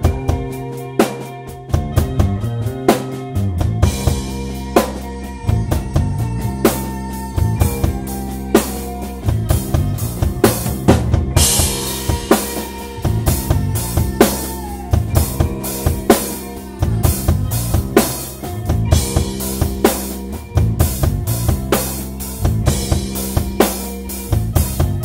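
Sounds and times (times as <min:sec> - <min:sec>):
bending electric guitar line: 0:00.0 - 0:25.0
drum kit beat: 0:00.0 - 0:25.0
electric bass: 0:00.0 - 0:25.0.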